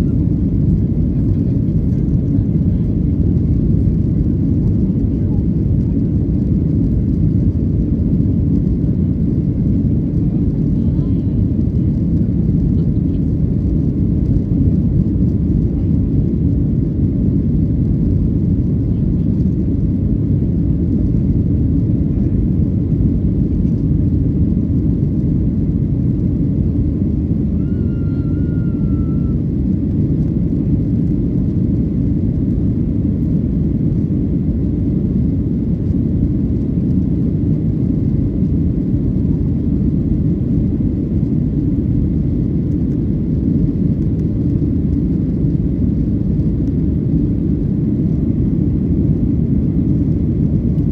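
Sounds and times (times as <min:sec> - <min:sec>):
jet engine cabin rumble: 0:00.0 - 0:50.9.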